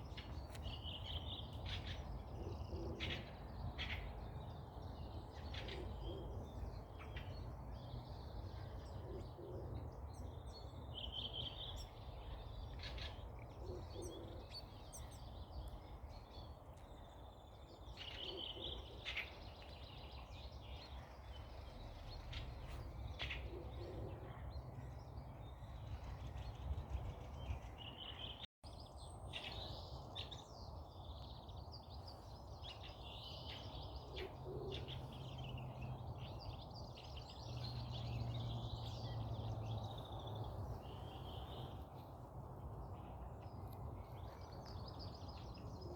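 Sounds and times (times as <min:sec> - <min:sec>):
birds chirping and trilling: 0:00.0 - 0:42.1.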